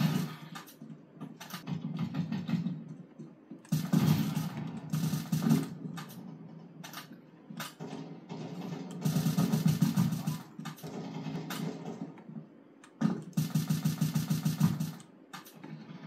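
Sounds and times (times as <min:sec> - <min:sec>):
shooter game sound from speakers: 0:00.0 - 0:16.0.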